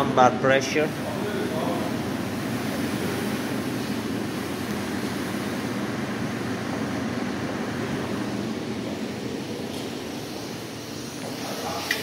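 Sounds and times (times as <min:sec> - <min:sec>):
generator machine running: 0:00.0 - 0:12.0.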